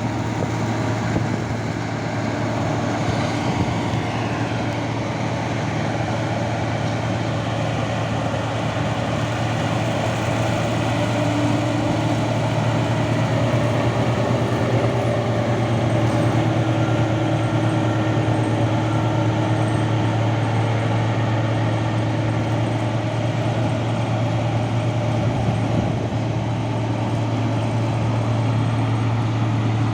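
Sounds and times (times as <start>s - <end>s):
combine harvester engine hum: 0.0s - 29.9s
machinery noise: 0.0s - 29.9s.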